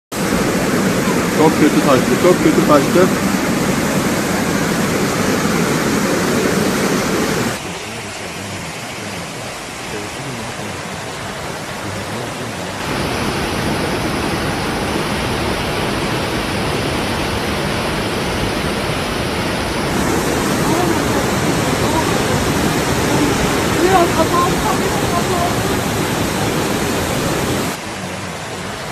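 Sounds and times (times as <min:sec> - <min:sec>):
floodwater rushing: 0:00.1 - 0:28.9.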